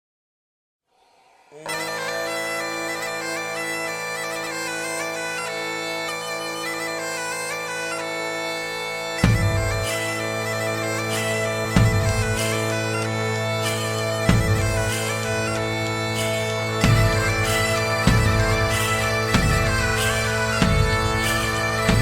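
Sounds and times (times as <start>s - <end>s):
bagpipe melody with drones: 1.6s - 22.0s.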